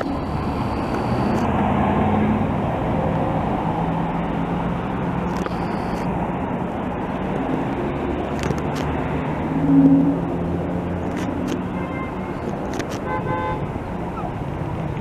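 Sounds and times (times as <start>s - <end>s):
vehicle passing: 0.0s - 13.0s
road traffic noise: 0.0s - 15.0s.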